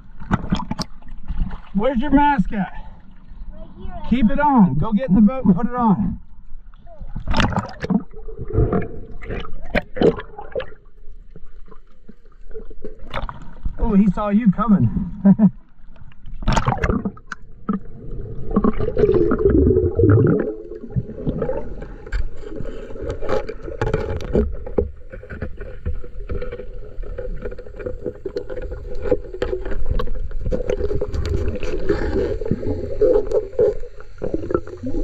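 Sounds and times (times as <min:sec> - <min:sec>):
underwater rushing and gurgling: 0:00.0 - 0:35.0.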